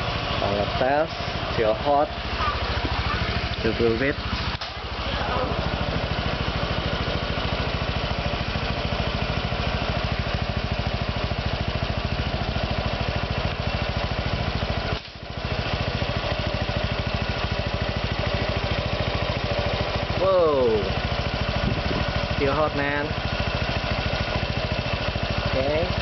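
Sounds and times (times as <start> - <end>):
scooter engine idling: 0.0 - 26.0.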